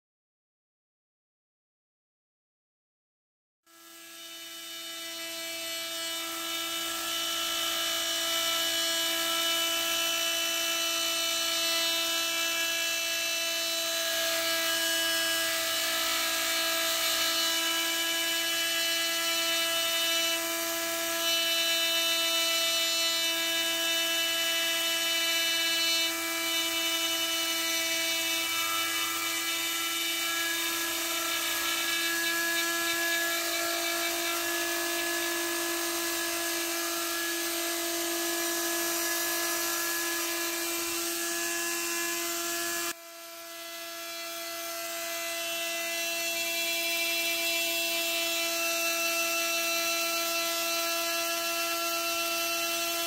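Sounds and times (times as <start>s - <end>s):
rotary tool cutting wood: 3.7s - 53.0s.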